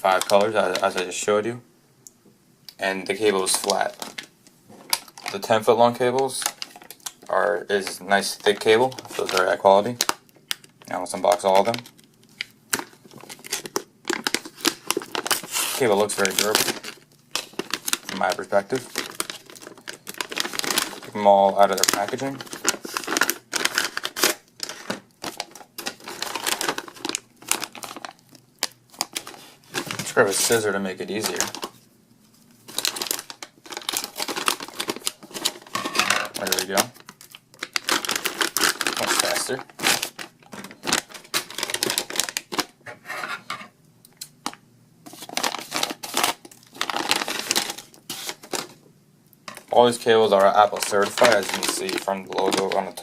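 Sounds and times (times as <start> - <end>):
packaging crinkling: 3.0 - 42.8, 44.2 - 48.8, 49.4 - 53.0.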